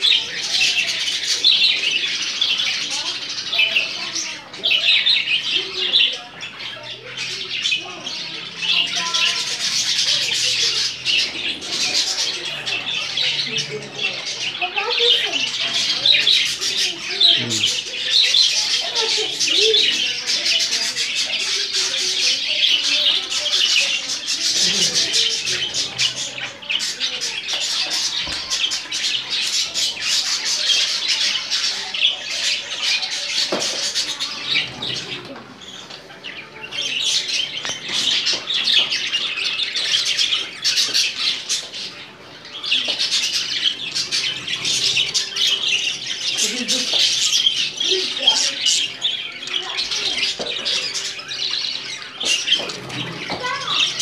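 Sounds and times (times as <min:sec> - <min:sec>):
budgerigars chattering and squawking: 0:00.0 - 0:54.0.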